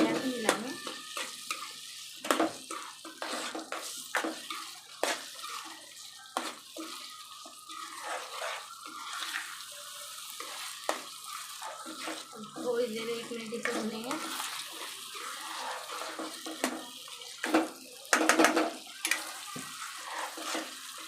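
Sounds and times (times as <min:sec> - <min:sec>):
spoon scraping and knocking pan: 0:00.0 - 0:21.0
vegetables sizzling in oil: 0:00.0 - 0:21.0.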